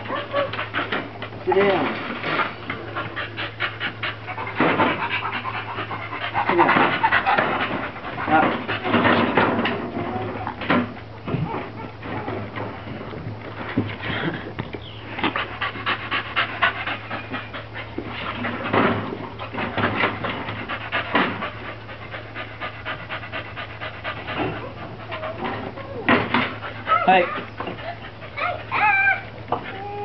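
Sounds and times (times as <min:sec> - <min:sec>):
dog panting: 0:00.0 - 0:09.8, 0:13.4 - 0:30.0.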